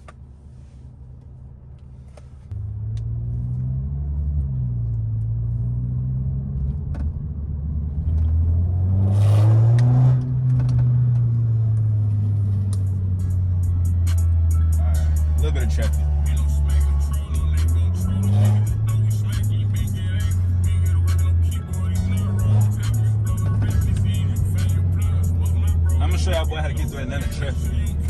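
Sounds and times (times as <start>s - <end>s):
loud car exhaust accelerating: 0.8s - 28.0s.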